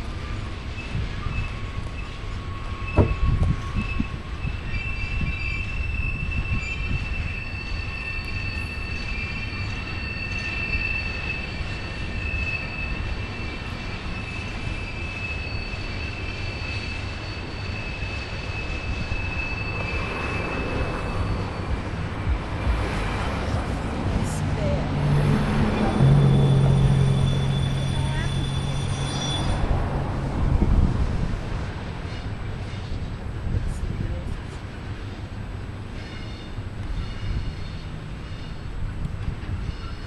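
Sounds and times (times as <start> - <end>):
freight train rumbling: 0.0 - 40.0
train wheels squealing: 0.2 - 23.6, 25.0 - 30.1, 32.0 - 33.2, 34.9 - 40.0.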